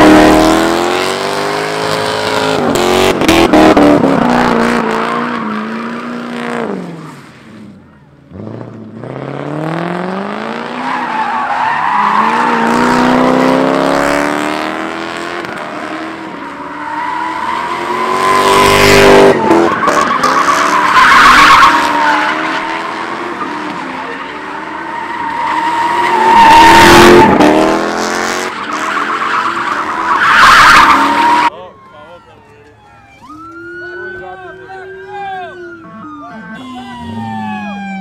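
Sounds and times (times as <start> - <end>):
tires squealing: 0.0 - 8.5, 9.1 - 31.5
car engines revving: 0.0 - 38.0.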